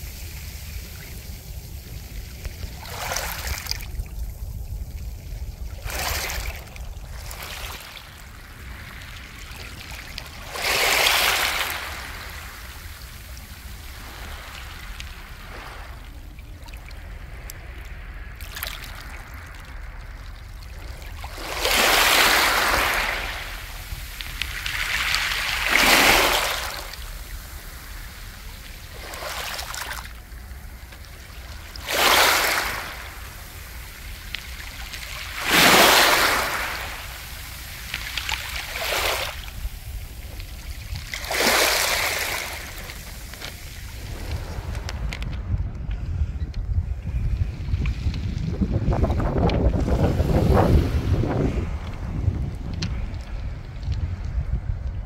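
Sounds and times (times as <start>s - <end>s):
waves washing on pebbles: 0.0s - 45.5s, 47.8s - 54.8s.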